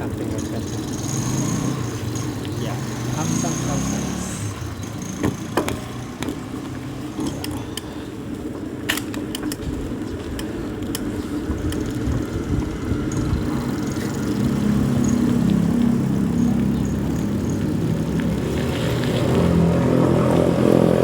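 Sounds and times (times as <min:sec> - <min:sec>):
road rumble: 0:00.0 - 0:21.0
vehicle engine running: 0:00.0 - 0:21.0.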